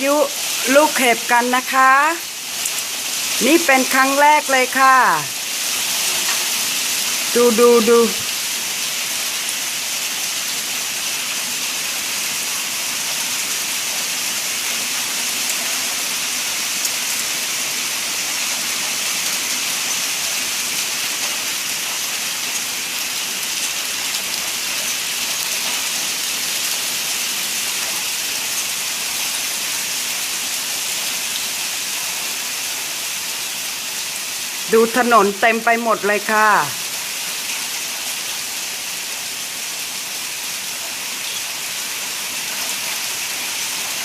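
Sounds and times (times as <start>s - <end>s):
hail and rain pelting down: 0.0s - 44.0s.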